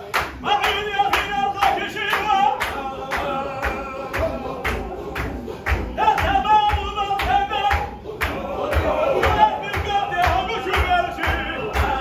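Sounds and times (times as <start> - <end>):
hand-clapping: 0.0 - 12.0
men chanting together: 0.0 - 12.0.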